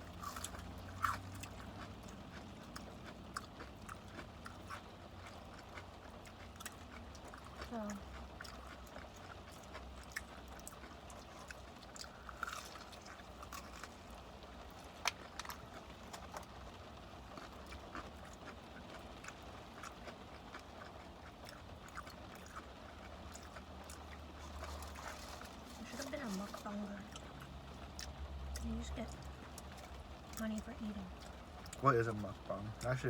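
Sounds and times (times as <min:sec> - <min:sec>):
crunching fried chicken: 0:00.0 - 0:33.0
low steady hum: 0:00.0 - 0:33.0.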